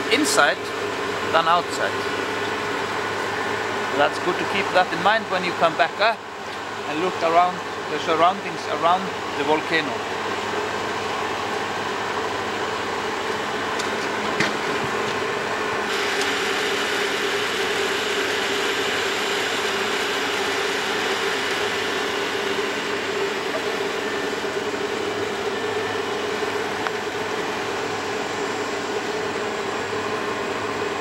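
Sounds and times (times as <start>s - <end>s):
winch motor humming: 0.0s - 31.0s.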